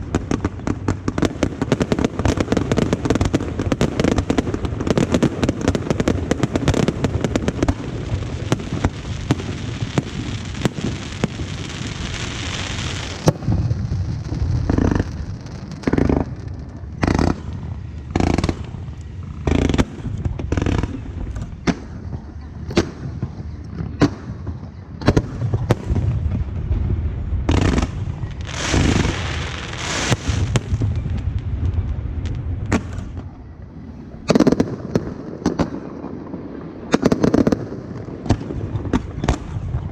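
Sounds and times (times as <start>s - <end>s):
echoing booms: 0.0s - 39.9s
fireworks crackling: 0.0s - 39.9s
fireworks sharp bangs: 0.0s - 39.9s.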